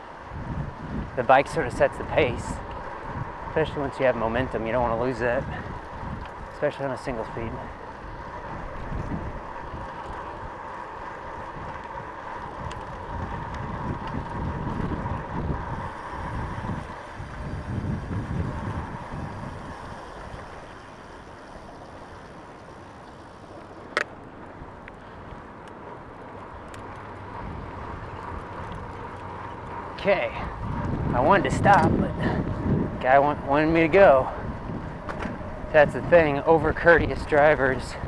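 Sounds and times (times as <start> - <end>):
bicycle rolling: 0.0 - 38.0
wind buffeting microphone: 0.0 - 38.0.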